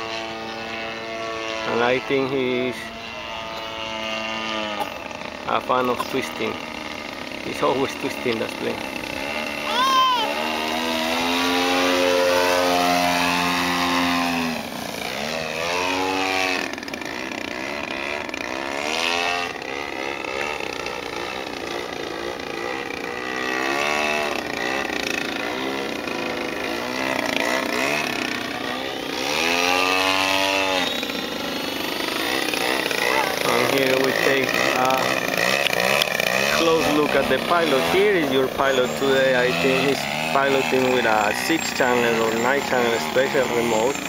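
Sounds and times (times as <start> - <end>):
model plane motor and propeller: 0.0 - 44.0.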